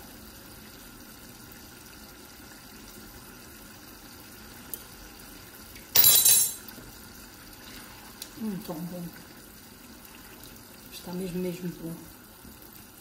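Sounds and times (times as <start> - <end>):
stew simmering in pan: 0.0 - 6.0, 6.6 - 13.0.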